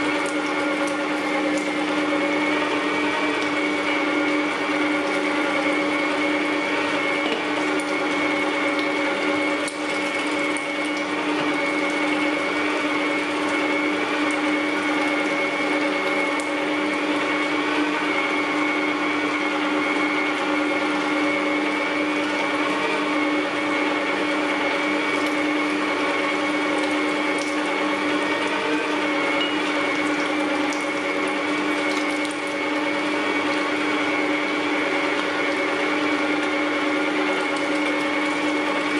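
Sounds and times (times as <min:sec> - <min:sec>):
electric meat grinder running: 0:00.0 - 0:38.9.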